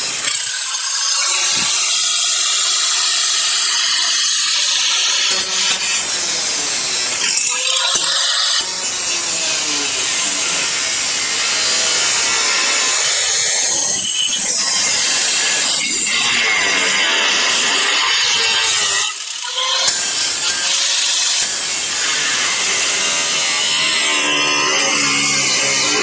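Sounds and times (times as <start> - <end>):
angle grinder cutting sheet steel: 0.0 - 26.0.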